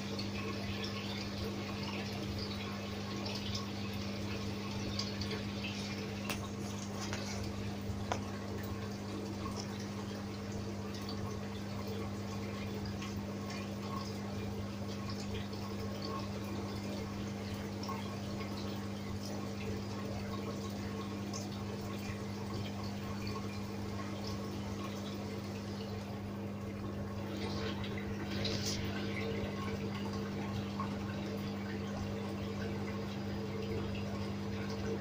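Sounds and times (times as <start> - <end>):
low pump hum: 0.0 - 35.0
water bubbling and trickling: 0.0 - 35.0
water drips: 0.0 - 35.0.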